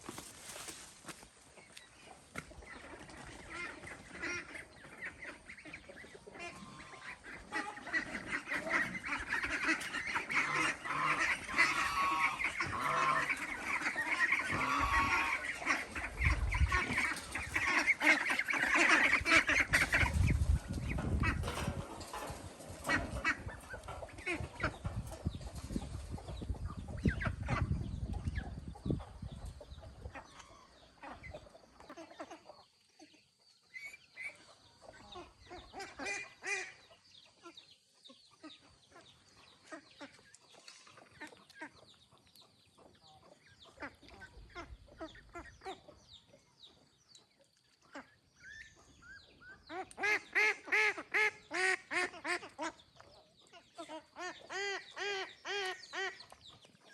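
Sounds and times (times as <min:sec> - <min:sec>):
ducks quacking: 0:01.6 - 0:37.7, 0:42.8 - 0:46.1, 0:47.8 - 0:56.9.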